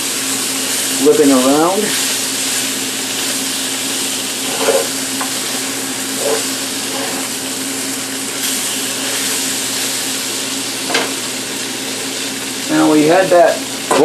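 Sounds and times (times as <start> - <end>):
fan humming: 0.0 - 14.0
meat sizzling in a pan: 0.0 - 14.0.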